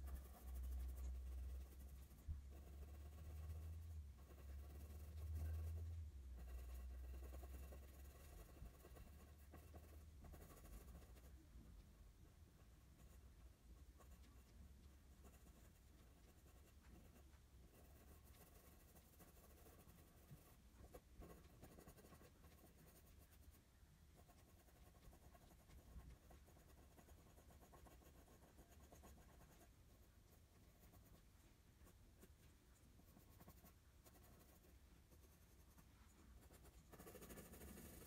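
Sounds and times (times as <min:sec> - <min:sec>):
pencil scratching on paper: 0:00.0 - 0:11.4, 0:15.2 - 0:23.6, 0:24.2 - 0:32.4, 0:33.0 - 0:38.0.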